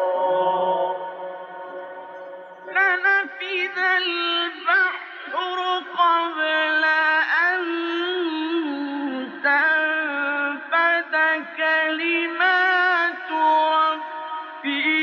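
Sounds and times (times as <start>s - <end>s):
man reciting melodically: 0.0s - 2.0s, 2.6s - 15.0s.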